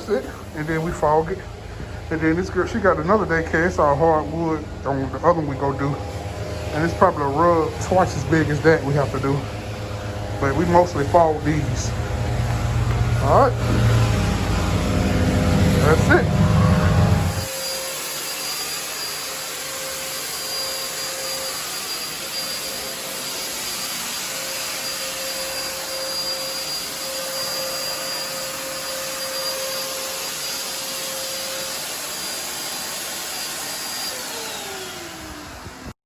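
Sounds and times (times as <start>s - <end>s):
vacuum motor whining: 0.0s - 36.0s.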